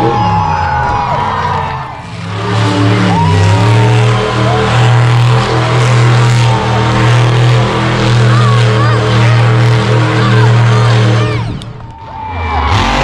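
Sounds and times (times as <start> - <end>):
truck engine revving high: 0.0 - 13.0.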